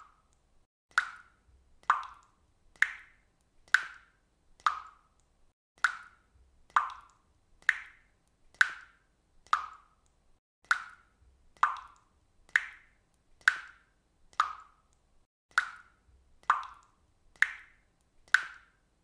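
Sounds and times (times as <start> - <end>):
water dripping from a faucet: 0.0 - 19.0.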